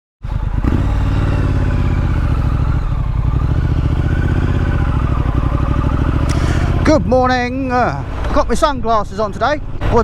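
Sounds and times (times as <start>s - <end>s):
motorcycle engine idling: 0.2s - 8.6s.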